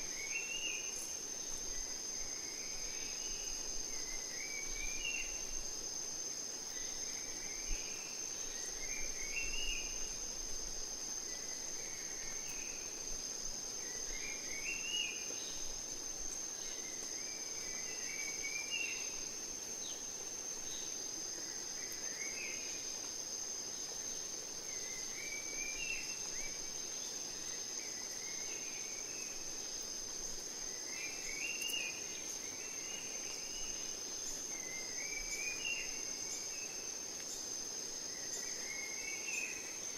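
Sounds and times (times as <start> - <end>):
crickets trilling: 0.0 - 39.9
soft background hiss: 0.0 - 39.9.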